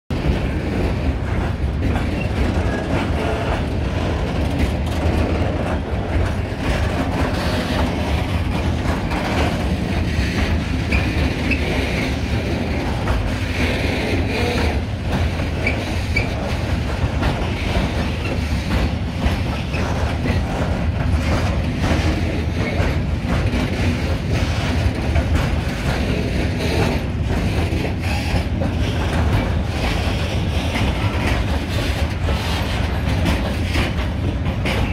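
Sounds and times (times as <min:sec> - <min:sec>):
freight train rumbling past: 0:00.1 - 0:34.9
wheels clattering over rail joints: 0:00.1 - 0:34.9.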